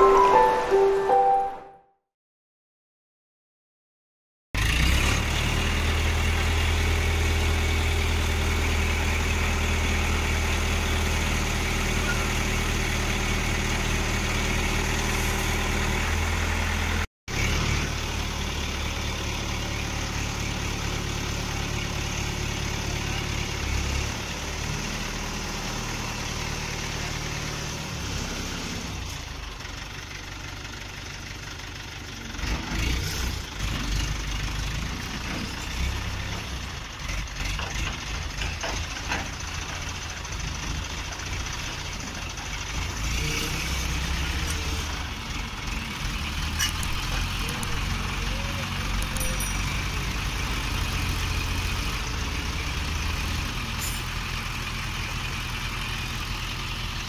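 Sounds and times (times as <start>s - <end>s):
diesel engine running steadily: 4.6s - 57.0s.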